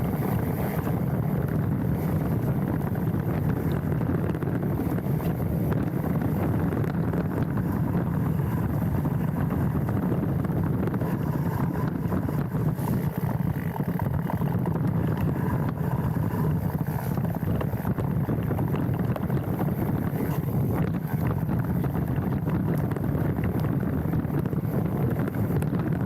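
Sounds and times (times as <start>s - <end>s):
bike tyres rolling on dirt: 0.0s - 26.0s
wind on microphone: 0.0s - 26.0s.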